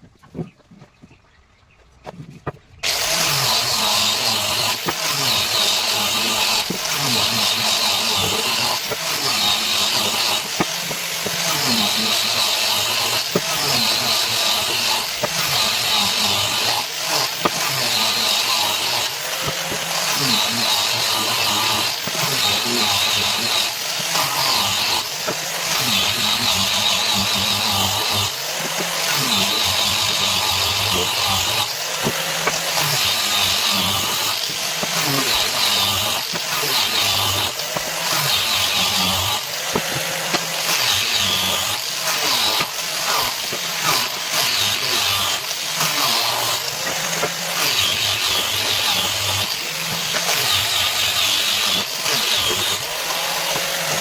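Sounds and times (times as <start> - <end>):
power tool cutting wood: 2.8 - 54.0.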